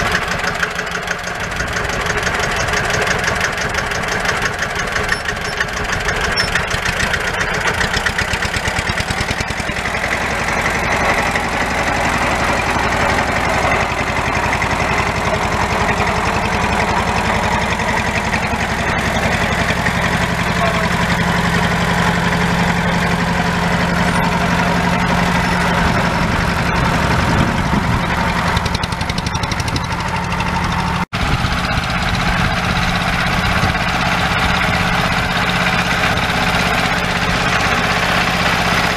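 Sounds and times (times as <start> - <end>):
single-cylinder diesel engine running: 0.0 - 38.9.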